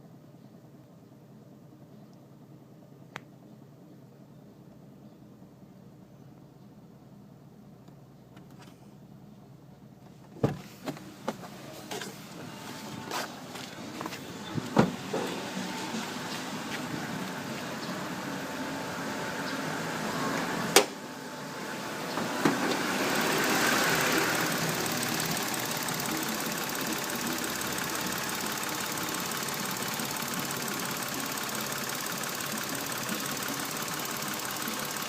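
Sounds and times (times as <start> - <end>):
car engine idling: 4.5 - 35.0.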